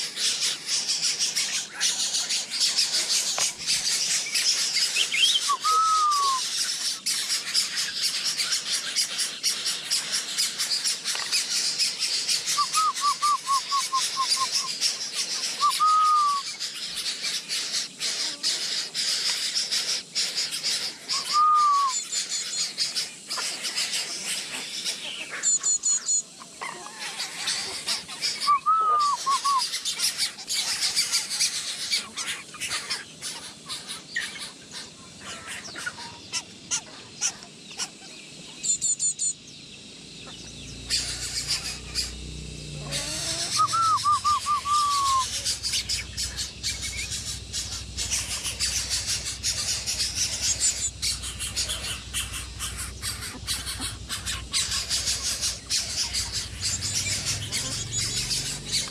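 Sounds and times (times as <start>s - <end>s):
arching bird call: 0.0s - 58.9s
birds chirping: 0.0s - 58.9s.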